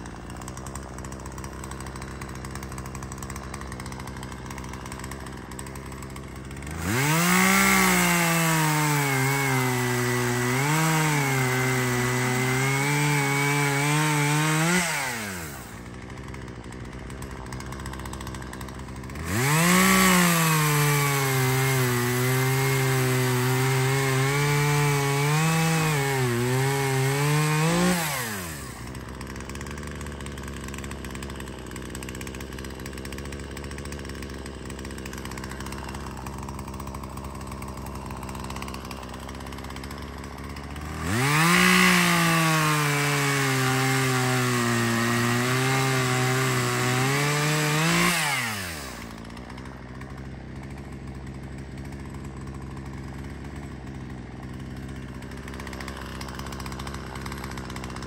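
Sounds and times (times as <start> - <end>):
chainsaw cutting wood: 0.0 - 58.0
chainsaw idling: 0.0 - 58.0.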